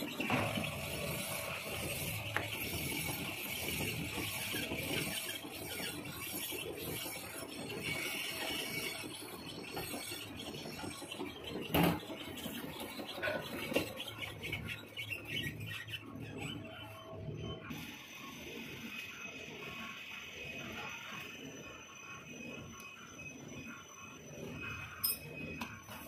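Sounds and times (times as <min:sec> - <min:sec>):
lathe running: 0:00.0 - 0:26.0.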